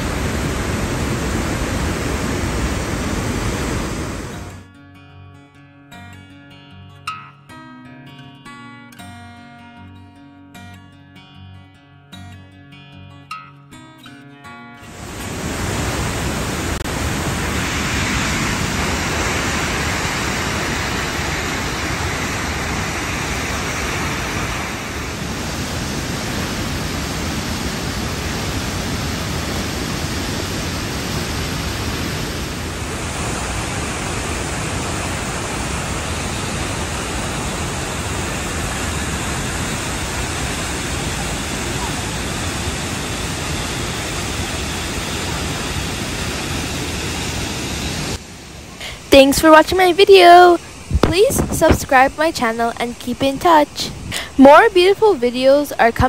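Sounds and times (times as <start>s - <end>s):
white water rushing: 0.0s - 4.6s, 14.9s - 56.0s.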